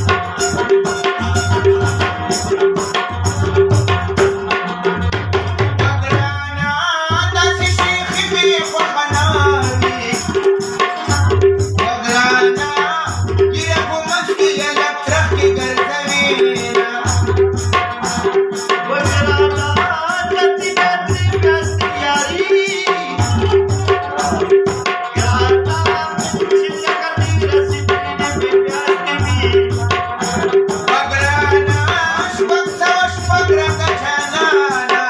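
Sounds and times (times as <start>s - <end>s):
tabla rhythm: 0.0s - 35.0s.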